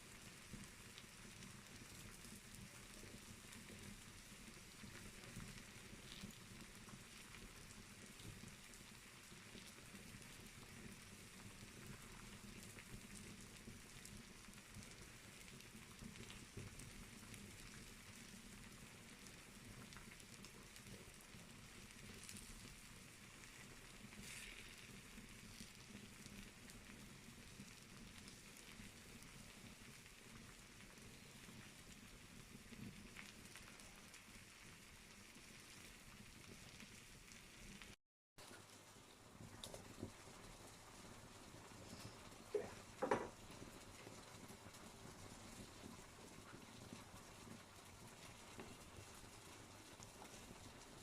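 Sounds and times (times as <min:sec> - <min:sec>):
fire crackling in a fireplace: 0:00.0 - 0:51.0.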